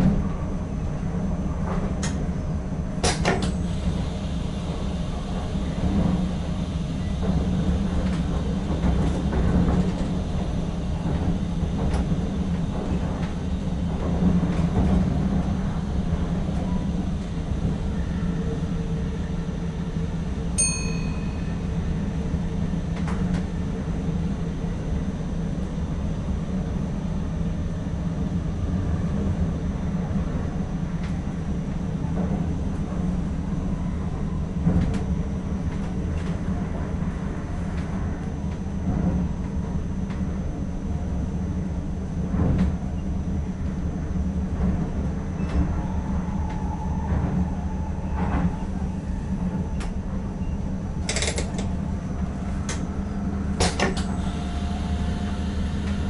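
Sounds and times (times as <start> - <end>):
train running gear rumble: 0.0 - 56.0.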